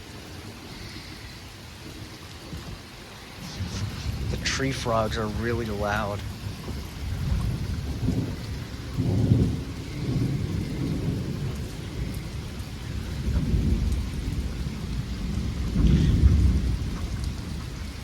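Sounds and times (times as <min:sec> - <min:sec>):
steady rain: 0:00.0 - 0:18.0
thunder rumbling: 0:03.3 - 0:18.0.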